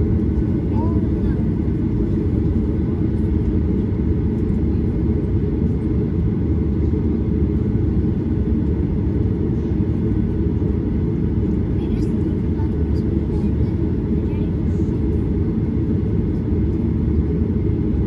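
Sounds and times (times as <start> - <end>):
jet engine rumble in cabin: 0.0 - 18.0.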